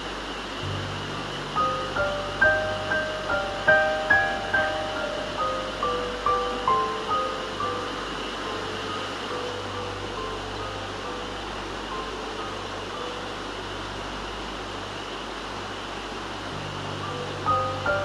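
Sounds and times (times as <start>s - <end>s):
river water rushing: 0.0s - 18.0s
soft music notes: 0.0s - 18.0s.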